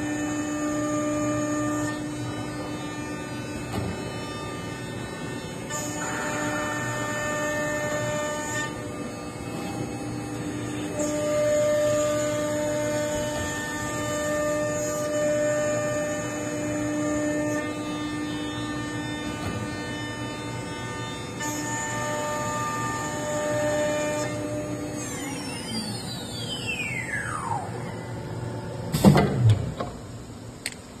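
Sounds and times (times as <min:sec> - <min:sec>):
router spindle whine: 0:00.0 - 0:30.7.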